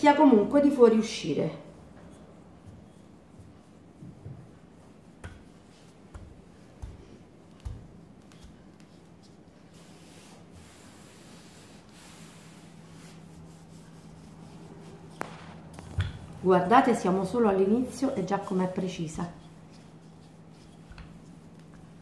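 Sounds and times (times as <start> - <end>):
hands rubbing dough: 0.0 - 22.0
rolling pin pressing dough: 1.7 - 22.0.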